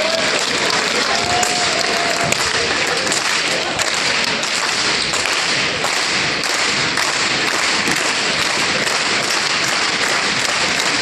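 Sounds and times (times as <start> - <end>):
crowd noise in a gym: 0.0 - 11.0.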